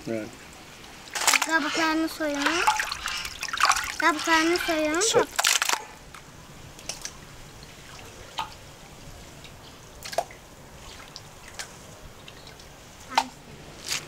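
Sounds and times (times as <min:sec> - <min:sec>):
water dripping: 0:00.0 - 0:13.4
faint steady hiss: 0:00.0 - 0:14.0.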